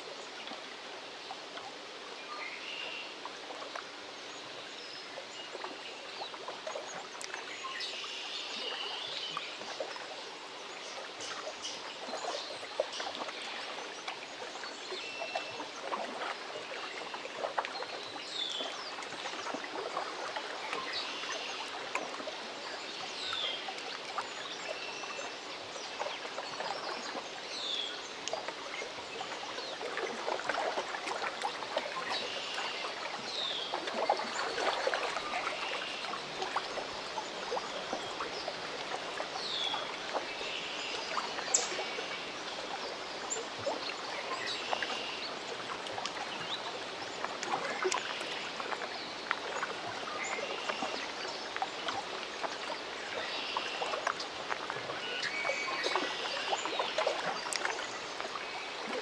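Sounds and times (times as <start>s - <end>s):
lake water lapping at shore: 0.0s - 59.0s.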